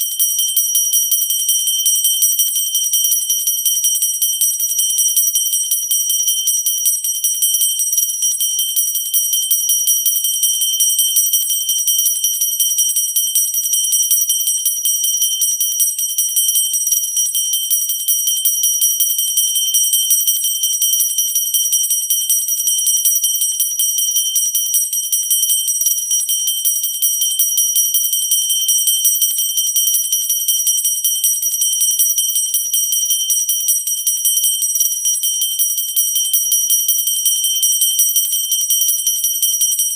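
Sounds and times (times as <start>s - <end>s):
hand bell ringing fast: 0.0s - 39.9s.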